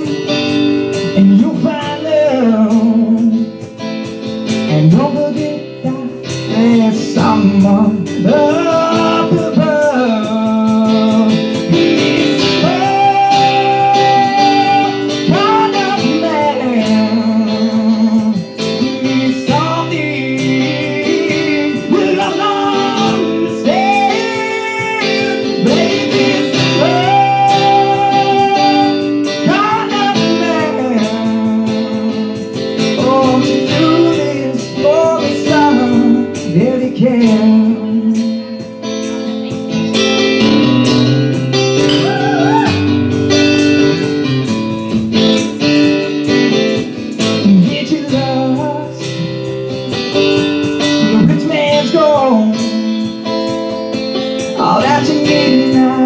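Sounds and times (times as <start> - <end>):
man singing into a microphone: 0.0 - 3.9, 4.5 - 39.0, 46.6 - 56.0
acoustic guitar: 0.0 - 56.0.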